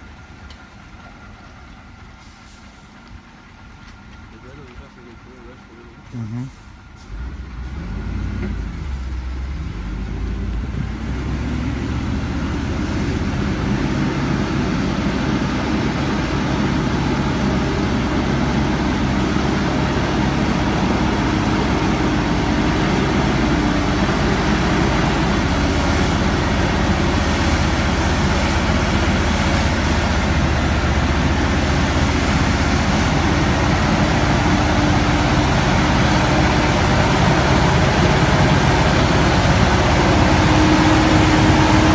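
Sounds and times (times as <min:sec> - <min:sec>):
truck diesel engine under load: 0:00.0 - 0:41.9.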